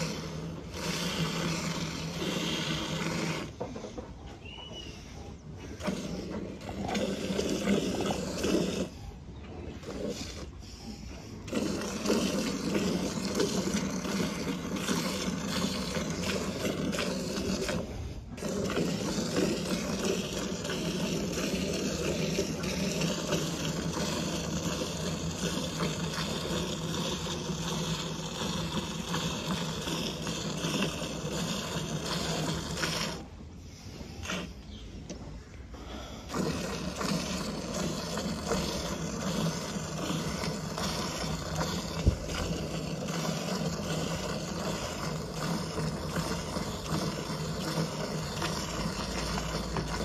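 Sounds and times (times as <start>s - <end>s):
milk squirting into bucket: 0.0s - 10.6s, 11.3s - 50.0s.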